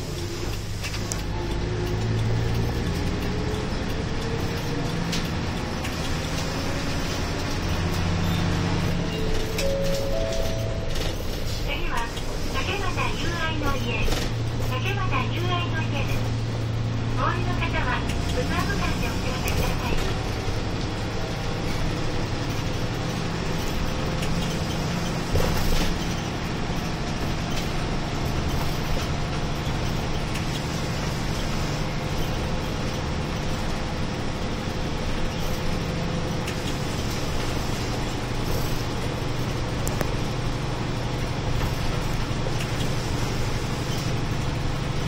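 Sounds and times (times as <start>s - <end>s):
bus engine and tyres droning: 0.0s - 45.0s.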